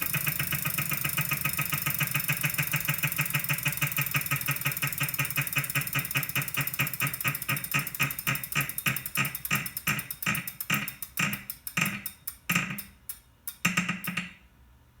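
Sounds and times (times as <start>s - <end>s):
trainer flywheel ringing tick: 0.0s - 14.4s.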